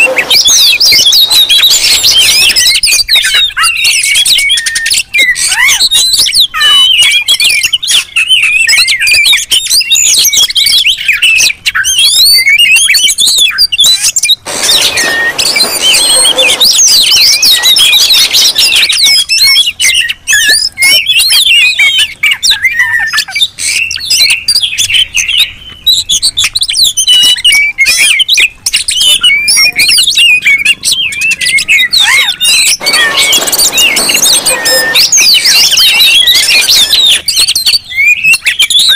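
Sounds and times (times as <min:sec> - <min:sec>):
songbirds singing whistled phrases: 0:00.0 - 0:38.9.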